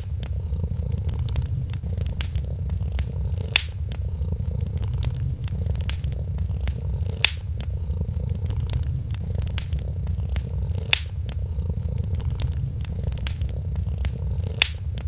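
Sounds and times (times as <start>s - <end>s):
cat purring: 0.0s - 15.0s
fire crackling and popping: 0.0s - 15.0s.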